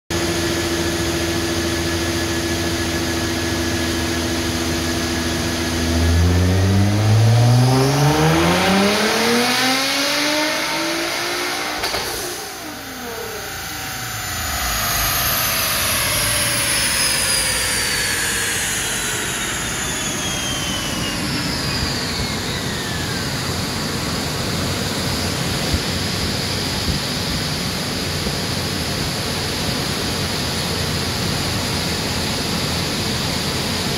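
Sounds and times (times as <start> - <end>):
cooling fan air rush: 0.2 - 33.9
high whine: 0.2 - 33.9.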